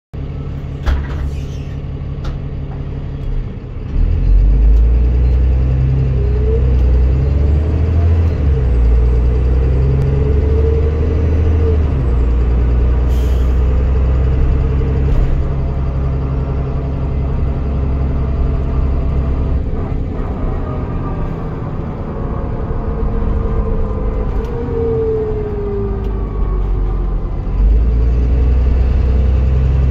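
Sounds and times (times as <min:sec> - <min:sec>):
bus diesel engine: 0:00.2 - 0:29.9
engine whine: 0:00.2 - 0:29.9.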